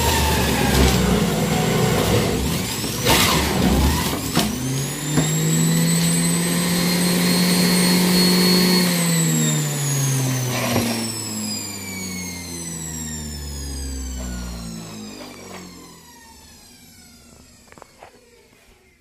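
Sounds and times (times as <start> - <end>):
juicer motor whining: 0.0 - 18.6.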